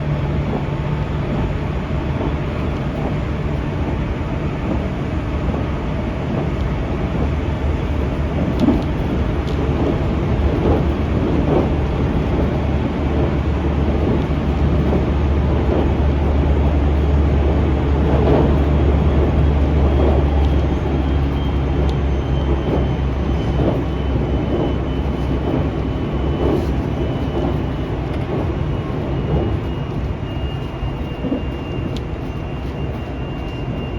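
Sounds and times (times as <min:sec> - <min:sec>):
train rumbling inside carriage: 0:00.0 - 0:33.9.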